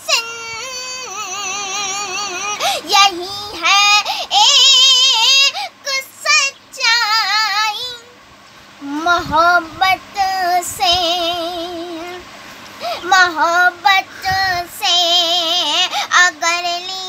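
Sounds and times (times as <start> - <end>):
woman singing: 0.0 - 8.2, 8.8 - 12.2, 13.0 - 17.0.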